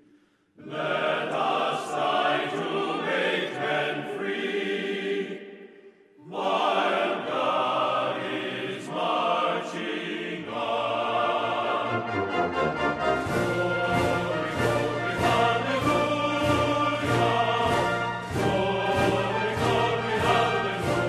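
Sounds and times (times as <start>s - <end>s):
choir singing: 0.6s - 21.0s.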